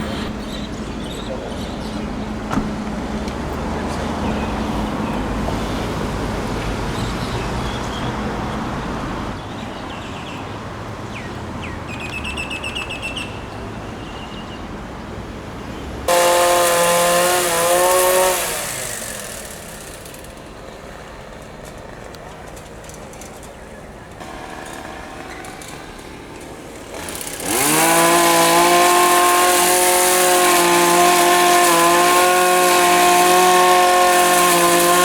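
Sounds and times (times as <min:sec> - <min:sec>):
street traffic engines: 0:00.0 - 0:35.0.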